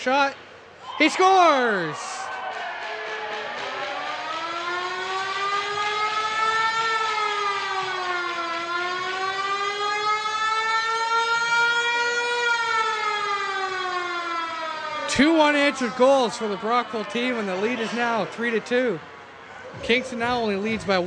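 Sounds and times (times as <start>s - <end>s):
goal siren wailing: 0.8s - 20.4s.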